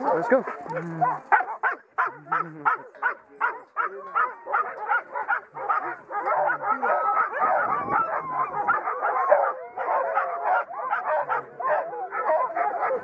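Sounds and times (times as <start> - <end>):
sled dogs barking and yelping: 0.0 - 13.0.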